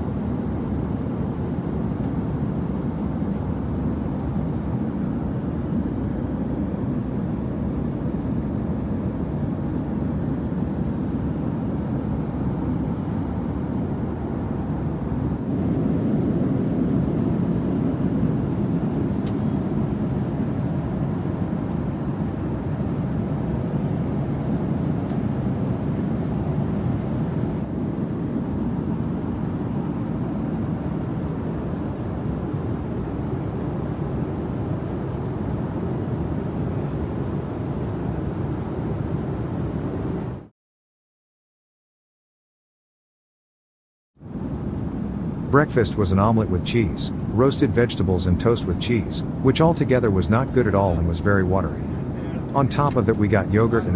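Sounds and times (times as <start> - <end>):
airplane cabin rumble in flight: 0.0 - 40.5, 44.2 - 53.9.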